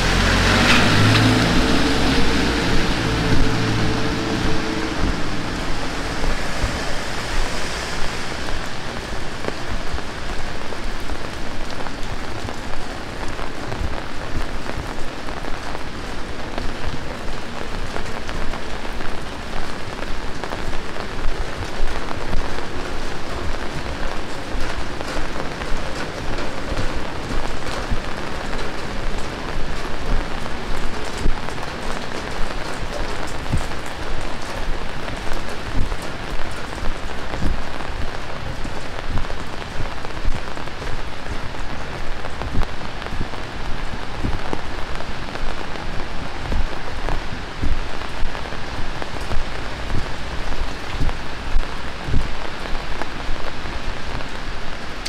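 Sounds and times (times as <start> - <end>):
close raindrop hits: 0.0 - 55.0
heavy rain falling: 0.0 - 55.0.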